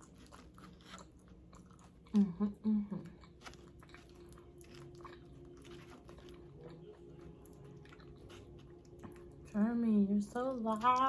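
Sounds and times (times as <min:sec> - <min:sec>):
chewing crunchy chips: 0:00.0 - 0:09.6.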